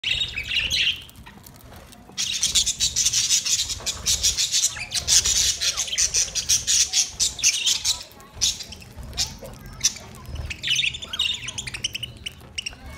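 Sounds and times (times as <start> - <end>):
budgerigars chattering and squawking: 0.0 - 1.2, 2.2 - 12.9.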